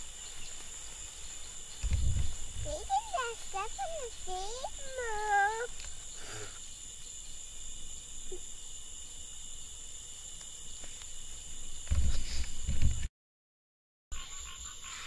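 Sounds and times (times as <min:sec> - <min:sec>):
crickets trilling: 0:00.0 - 0:12.9.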